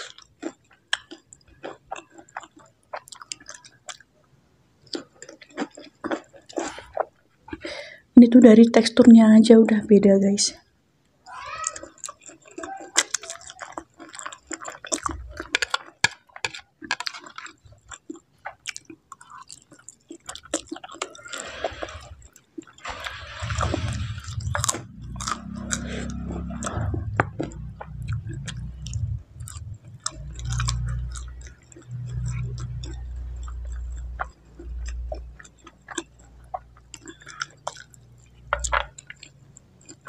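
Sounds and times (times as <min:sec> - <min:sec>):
chewing noodles: 0:00.0 - 0:04.2, 0:04.8 - 0:07.7, 0:11.2 - 0:40.0.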